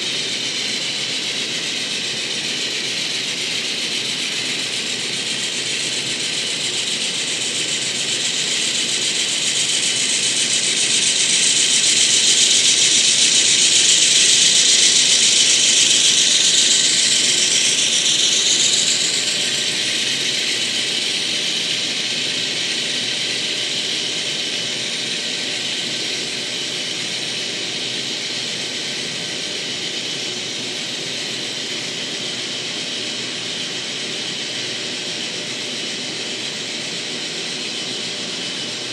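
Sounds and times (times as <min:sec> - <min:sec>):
model train whirring rattle: 0:00.0 - 0:38.9.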